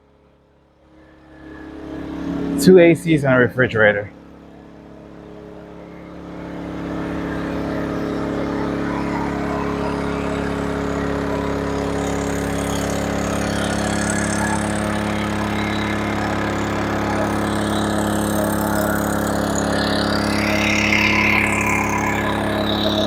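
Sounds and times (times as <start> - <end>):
generator engine running: 0.1 - 23.0.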